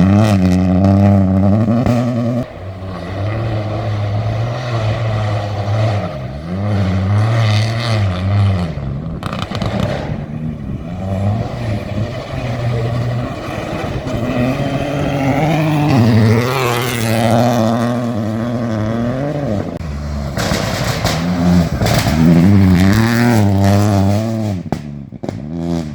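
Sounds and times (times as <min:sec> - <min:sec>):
car engine revving hard: 0:00.0 - 0:25.9.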